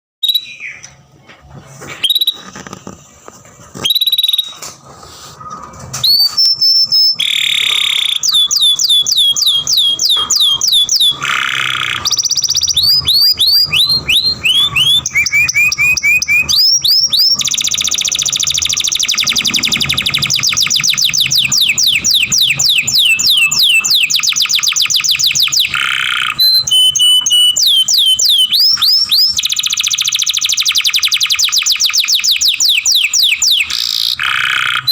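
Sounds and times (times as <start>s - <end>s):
canary singing trills: 0.2s - 1.0s, 2.0s - 2.8s, 3.8s - 4.7s, 5.4s - 34.9s.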